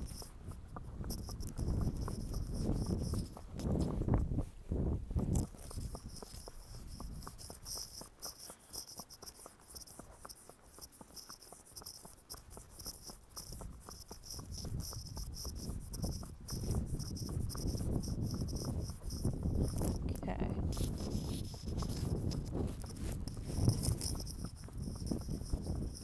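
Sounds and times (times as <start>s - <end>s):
hooves clip-clopping on pavement: 0.0s - 26.0s.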